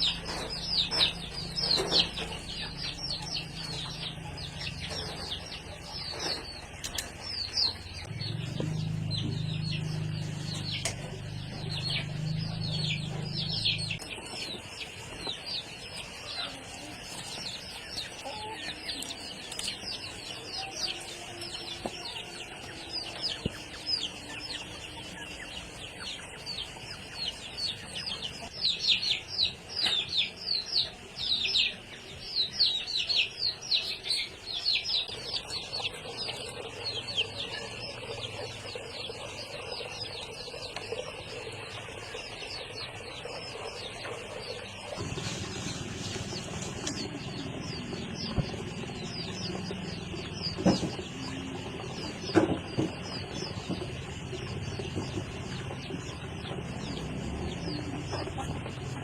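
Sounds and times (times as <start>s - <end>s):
chicks peeping and chirping: 0.0s - 59.0s.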